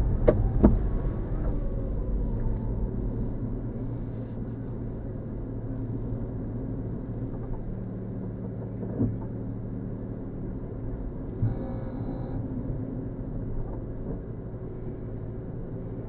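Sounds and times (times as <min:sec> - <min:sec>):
car engine low hum: 0:00.0 - 0:16.0.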